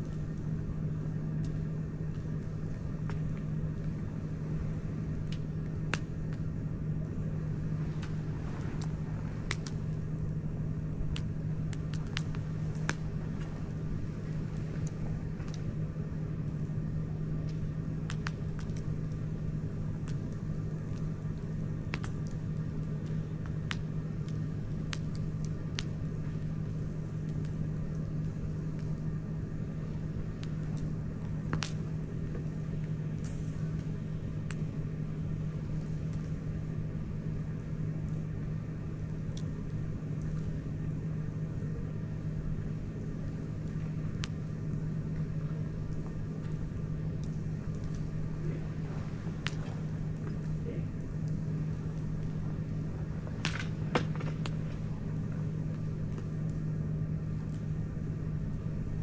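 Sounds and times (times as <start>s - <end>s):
campfire crackling and popping: 0.0s - 59.0s
low hum and rumble: 0.0s - 59.0s.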